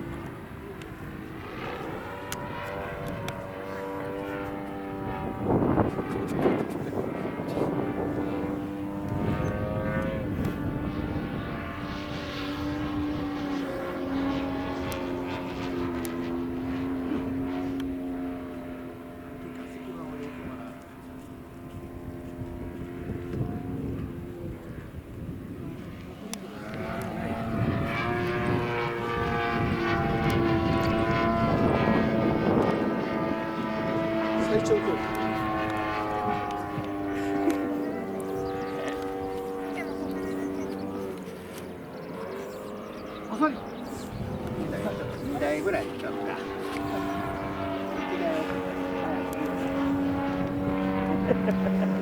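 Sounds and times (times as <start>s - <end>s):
wind gusts on microphone: 0.0s - 17.7s, 19.9s - 52.0s
model airplane motor buzzing: 0.0s - 52.0s.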